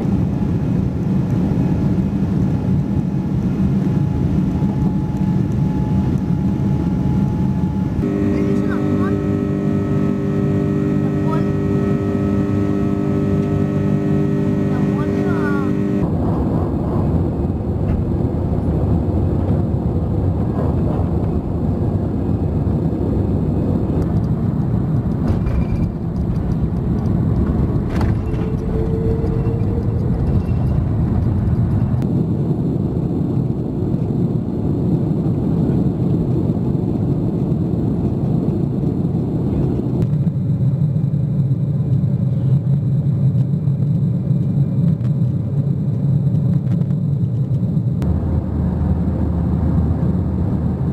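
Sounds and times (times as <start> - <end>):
jet engines and airflow rush: 0.0 - 50.9.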